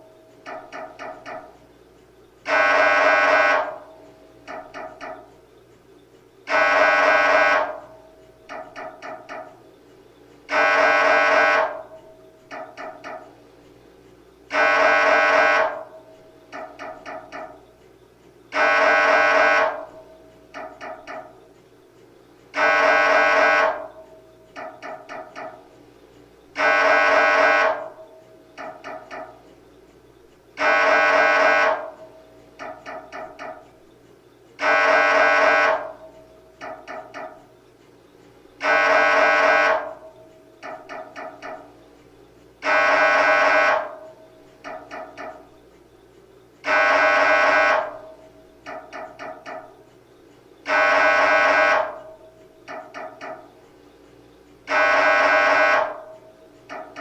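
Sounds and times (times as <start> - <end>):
mri scanner buzzing tone: 0.0 - 57.0
mri scanner rapid pulses: 0.0 - 57.0.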